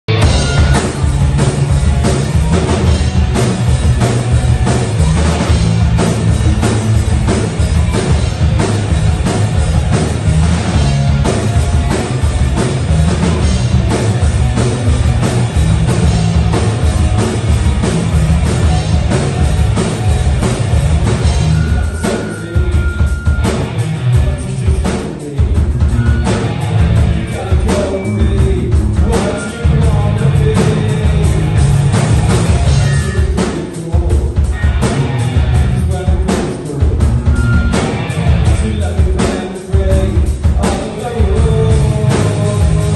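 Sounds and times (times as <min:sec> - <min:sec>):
live rock band playing: 0:00.1 - 0:42.9
steady drum beat: 0:00.1 - 0:42.9.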